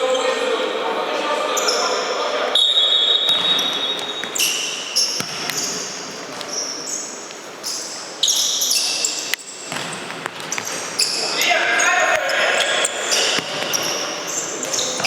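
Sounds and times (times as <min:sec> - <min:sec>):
shoes squeaking on court floor: 0:01.6 - 0:15.0.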